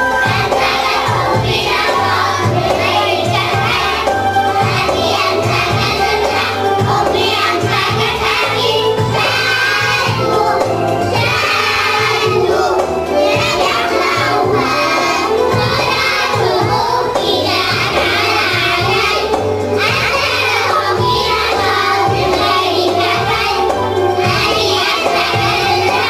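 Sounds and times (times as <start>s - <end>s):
backing track with bass line: 0.0s - 26.0s
children singing: 0.0s - 26.0s.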